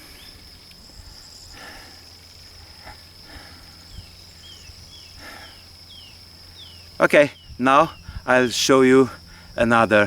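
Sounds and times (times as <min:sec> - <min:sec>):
insect trill: 0:00.0 - 0:10.0.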